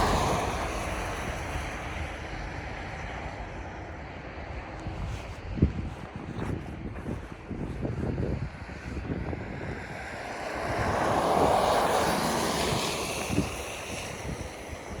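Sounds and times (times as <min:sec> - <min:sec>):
vehicle tyre hiss on snow: 0:00.0 - 0:15.0
wind rumble on microphone: 0:00.0 - 0:15.0.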